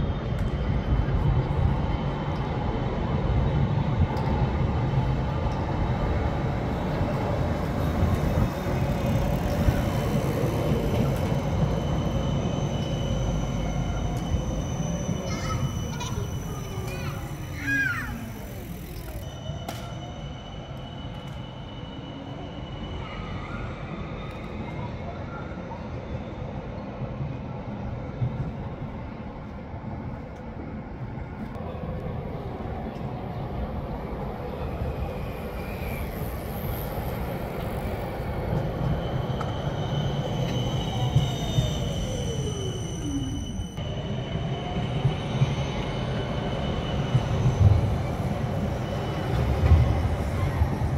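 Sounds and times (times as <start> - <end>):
tram wheels rumbling on rails: 0.0 - 50.9.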